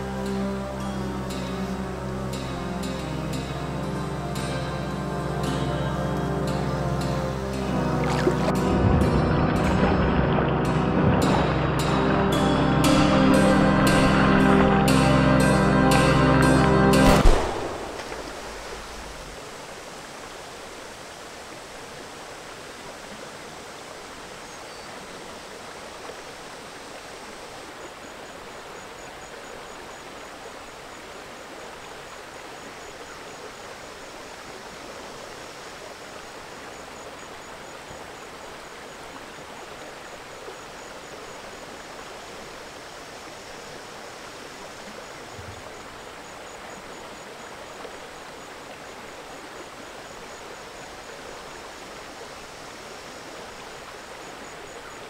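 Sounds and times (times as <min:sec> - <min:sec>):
high pulsing insect call: 0:00.0 - 0:55.0
river water flowing: 0:00.0 - 0:55.0.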